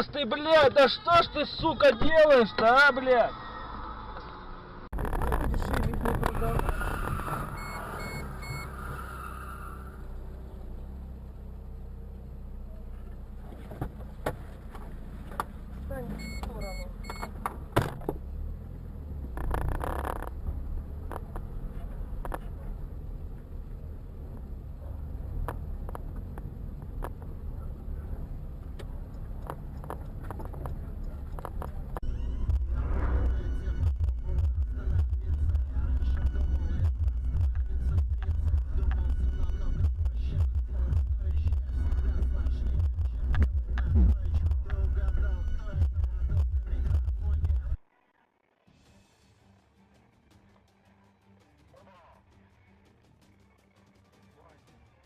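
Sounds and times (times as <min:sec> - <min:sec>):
vehicle road and engine rumble: 0:00.0 - 0:54.6.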